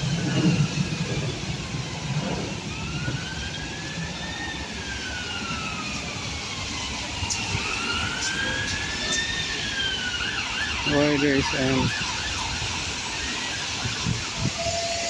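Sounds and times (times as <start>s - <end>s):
ambulance siren wailing: 0.0s - 15.0s
traffic noise: 0.0s - 15.0s.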